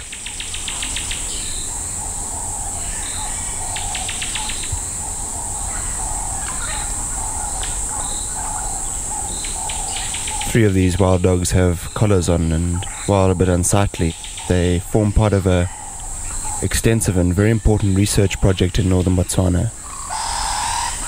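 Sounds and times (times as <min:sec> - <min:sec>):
high-pitched insect drone: 0:00.0 - 0:21.0
rapid clicking trills: 0:00.0 - 0:21.0
short chirping calls: 0:00.0 - 0:21.0.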